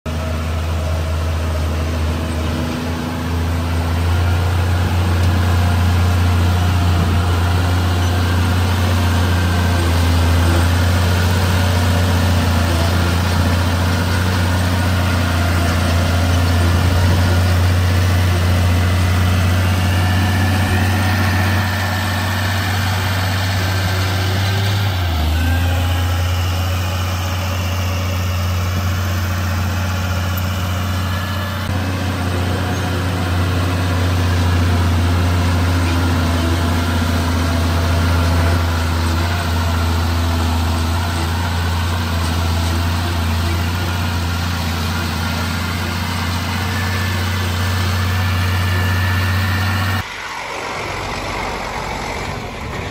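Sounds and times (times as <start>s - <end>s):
diesel engine running: 0.1s - 52.9s.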